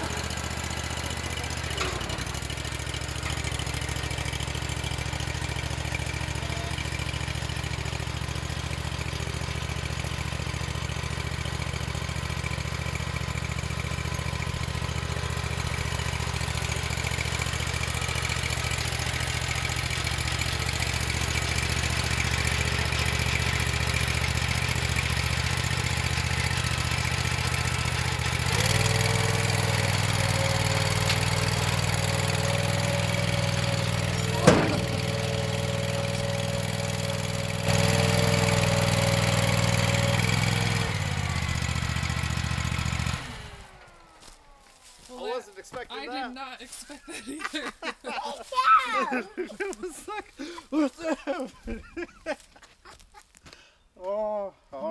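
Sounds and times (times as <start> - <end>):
stump grinder engine running: 0.0 - 47.2.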